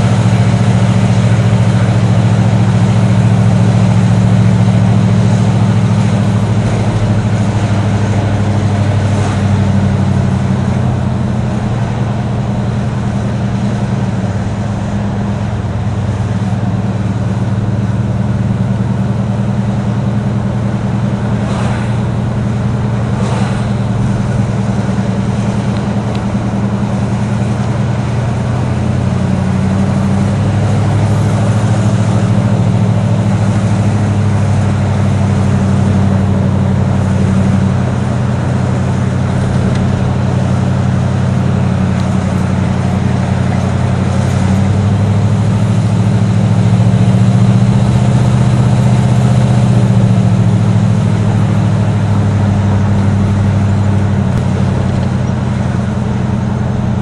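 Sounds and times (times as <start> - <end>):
car engine droning: 0.0 - 57.0
tyre and road noise: 0.0 - 57.0.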